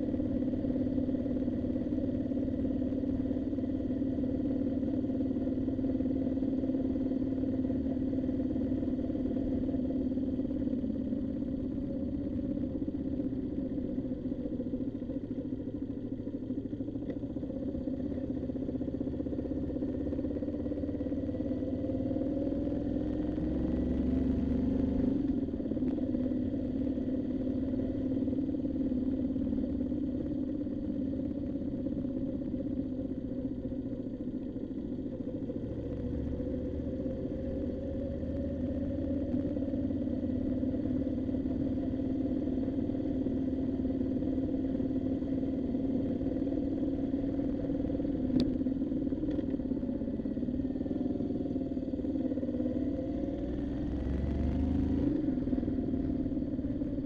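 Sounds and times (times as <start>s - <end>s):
motorcycle engine running: 0.0s - 57.0s
wind and road rumble: 0.0s - 57.0s.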